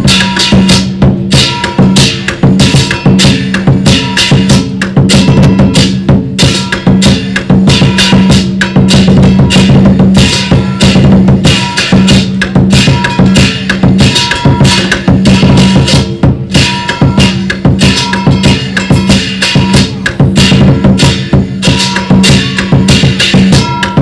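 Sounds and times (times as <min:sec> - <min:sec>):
drum and cymbals playing fast: 0:00.0 - 0:24.0.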